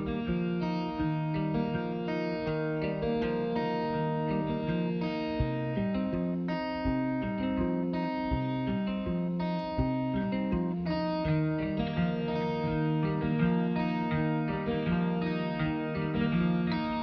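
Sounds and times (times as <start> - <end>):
plucked guitar music with beat: 0.0 - 17.0.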